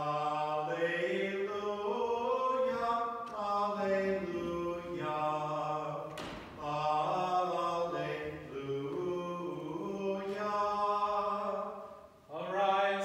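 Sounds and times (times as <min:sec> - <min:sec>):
man chanting a hymn: 0:00.0 - 0:13.0.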